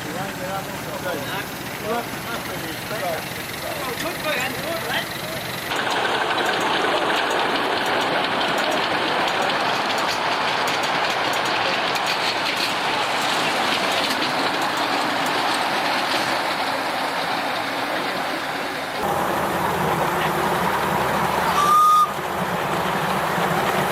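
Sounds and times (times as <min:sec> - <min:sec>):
clickety-clack of wheels: 0:00.0 - 0:23.9
train wheels rumbling on rails: 0:00.0 - 0:23.9.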